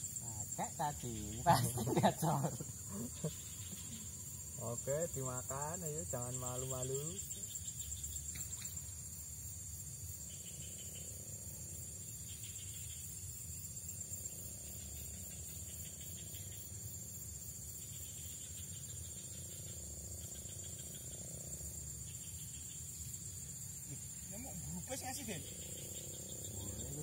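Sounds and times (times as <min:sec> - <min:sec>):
insect chorus chirring: 0:00.0 - 0:27.0.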